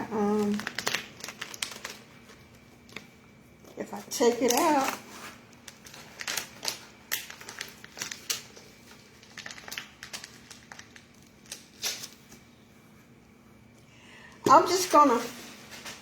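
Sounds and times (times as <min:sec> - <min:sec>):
plastic packaging crinkling: 0:00.0 - 0:12.5, 0:14.7 - 0:16.0.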